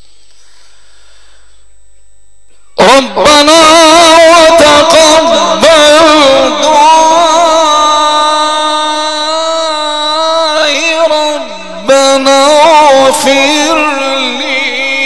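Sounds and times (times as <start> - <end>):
man reciting melodically: 2.6 - 15.0.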